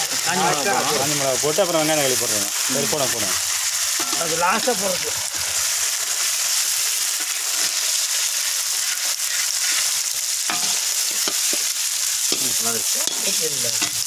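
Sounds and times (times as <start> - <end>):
hot oil sizzling in a pan: 0.0 - 14.0.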